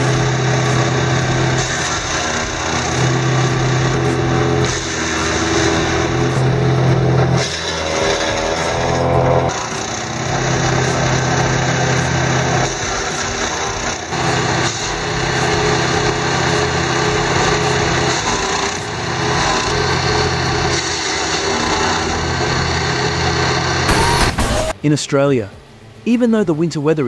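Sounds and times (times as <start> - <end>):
wood chipper engine running: 0.0 - 24.7.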